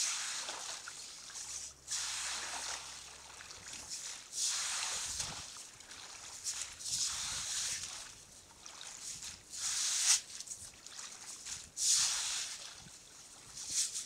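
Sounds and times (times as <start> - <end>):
broom swishing through water: 0.0 - 14.0.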